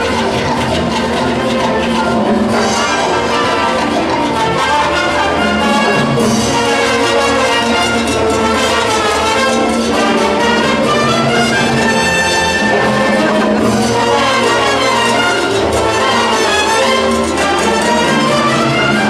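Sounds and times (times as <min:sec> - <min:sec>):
orchestra playing a mambo: 0:00.0 - 0:19.0.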